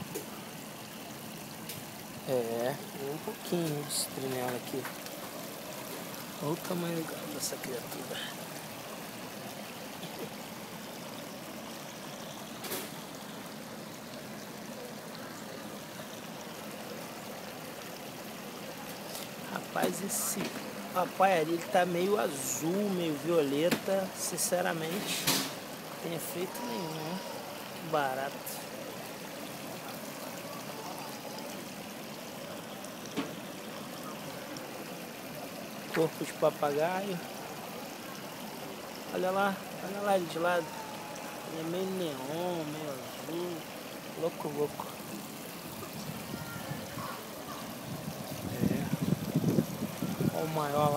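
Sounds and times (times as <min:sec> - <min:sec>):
running water in pond: 0:00.0 - 0:50.9.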